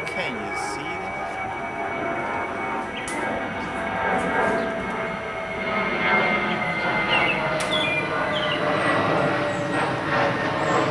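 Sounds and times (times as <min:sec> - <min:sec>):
machine-like drone: 0:00.0 - 0:10.9.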